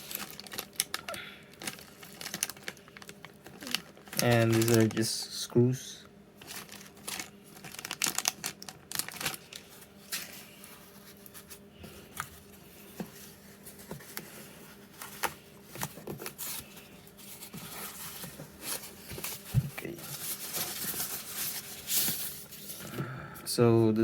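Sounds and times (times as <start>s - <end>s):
packaging crinkling and rustling: 0.0s - 5.2s, 6.4s - 22.9s.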